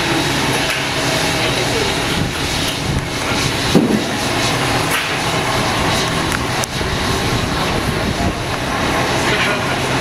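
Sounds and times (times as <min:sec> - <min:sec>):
steam locomotive simmering: 0:00.0 - 0:10.0.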